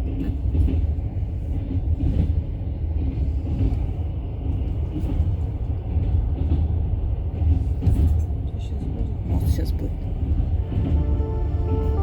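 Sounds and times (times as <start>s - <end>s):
vehicle rumble inside cabin: 0.0s - 12.0s.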